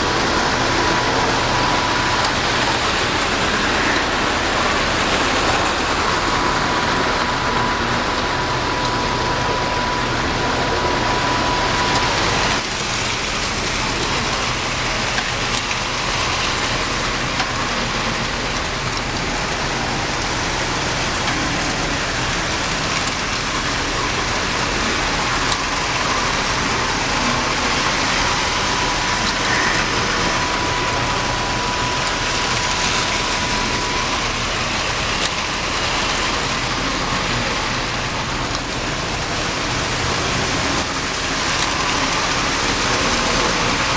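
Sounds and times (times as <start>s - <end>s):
motor hum: 0.0s - 43.9s.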